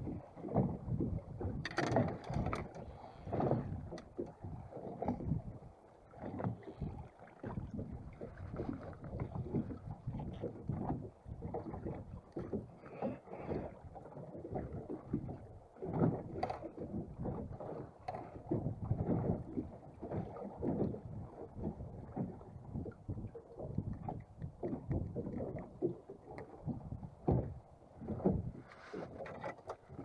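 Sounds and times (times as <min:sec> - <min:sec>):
wind buffeting microphone: 0:00.0 - 0:12.8, 0:13.4 - 0:30.0
water sloshing against hull: 0:00.0 - 0:30.0.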